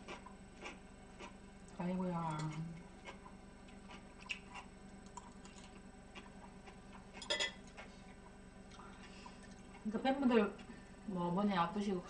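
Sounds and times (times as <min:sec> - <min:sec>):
faint chewing: 0:00.0 - 0:10.9.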